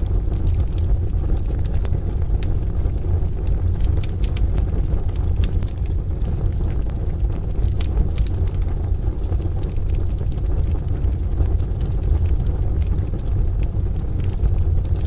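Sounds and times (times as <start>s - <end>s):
deep rumble: 0.0s - 15.0s
wood stove fire crackling: 0.0s - 15.0s.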